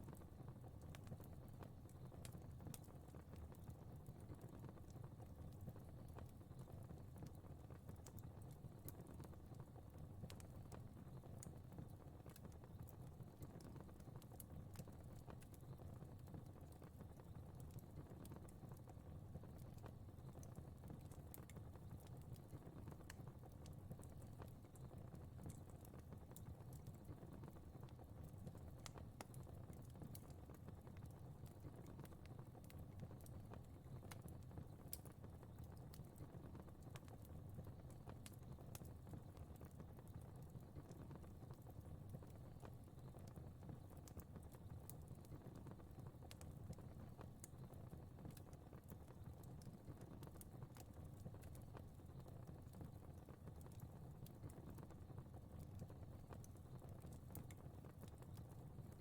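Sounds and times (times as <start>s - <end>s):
fire crackling: 0.0s - 59.0s.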